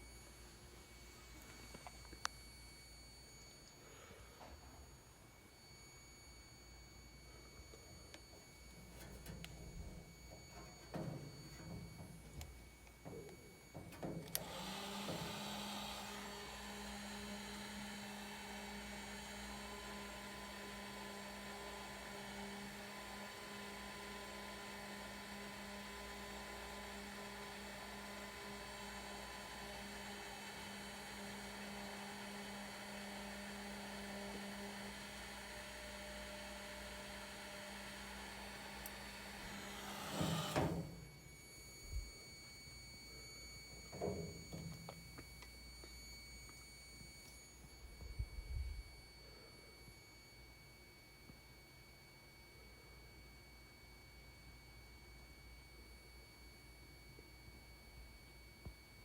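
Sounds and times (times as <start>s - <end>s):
appliance motor humming: 0.0s - 50.4s.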